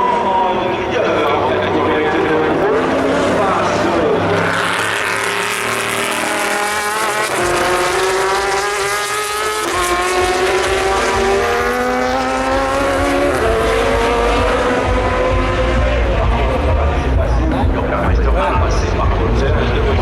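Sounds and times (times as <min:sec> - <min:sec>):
racing car engine accelerating: 0:00.0 - 0:20.0.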